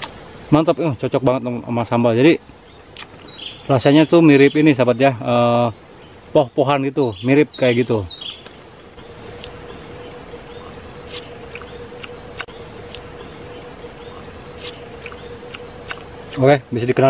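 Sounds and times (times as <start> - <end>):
insect high-pitched trill: 0.0 - 17.0
low steady hum: 0.0 - 17.0.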